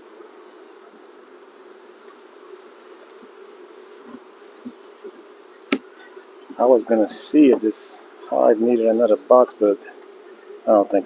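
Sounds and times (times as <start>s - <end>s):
bees buzzing: 0.0s - 11.0s
light knocks of hive frames: 0.4s - 11.0s.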